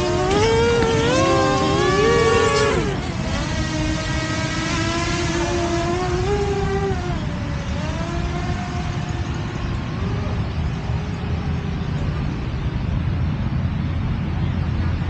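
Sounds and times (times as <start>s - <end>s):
drone propellers whining: 0.0s - 15.0s
low background rush: 0.0s - 15.0s.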